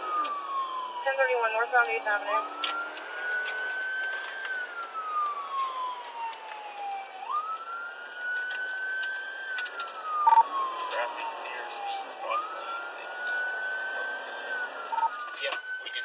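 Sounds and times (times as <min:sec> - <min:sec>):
police car siren wailing: 0:00.0 - 0:16.0.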